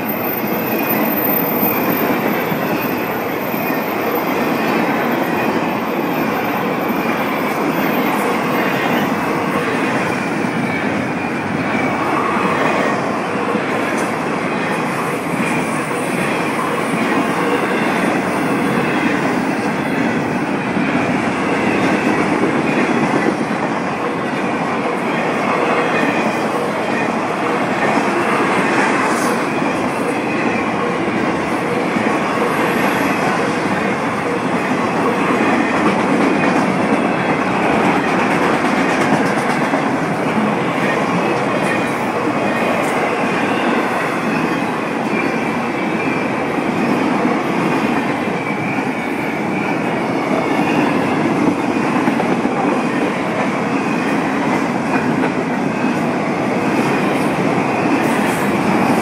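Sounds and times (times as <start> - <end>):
freight train wheels on track: 0.0 - 59.0.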